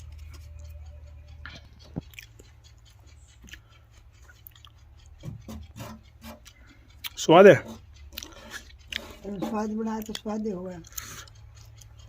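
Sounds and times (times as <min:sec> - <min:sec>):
person chewing with crunches: 0:00.0 - 0:07.3, 0:08.0 - 0:09.4, 0:10.0 - 0:10.2, 0:10.8 - 0:12.0
steady low hum: 0:00.0 - 0:12.0.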